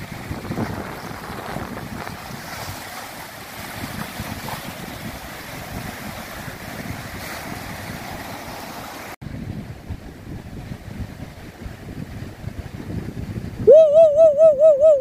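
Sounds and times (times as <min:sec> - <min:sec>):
small waves breaking on beach: 0:00.0 - 0:13.7
wind buffeting microphone: 0:00.0 - 0:15.0.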